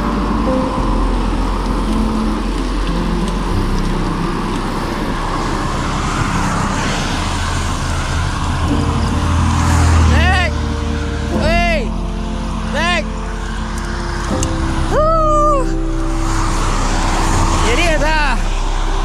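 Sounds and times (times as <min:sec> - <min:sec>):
road traffic noise: 0:00.0 - 0:19.0
vehicle engine hum: 0:00.0 - 0:19.0.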